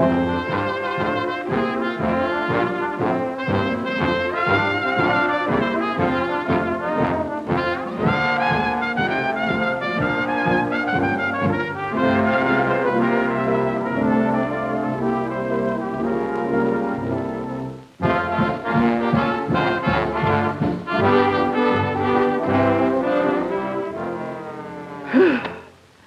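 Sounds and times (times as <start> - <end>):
orchestral cartoon music with brass: 0.0 - 25.5.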